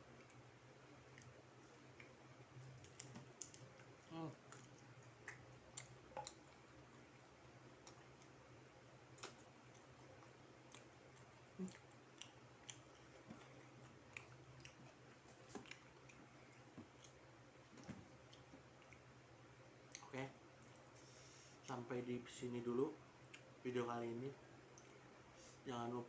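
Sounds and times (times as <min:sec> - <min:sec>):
chewing crispy food: 0:00.0 - 0:21.0
low steady hum: 0:00.0 - 0:26.0.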